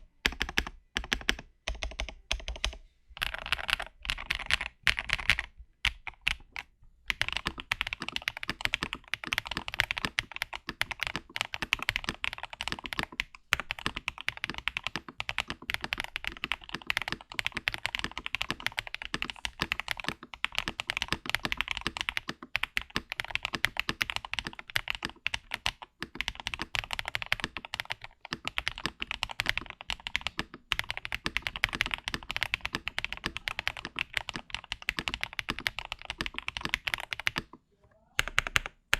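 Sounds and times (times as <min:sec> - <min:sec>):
mechanical keyboard typing: 0:00.0 - 0:37.6, 0:38.2 - 0:38.9.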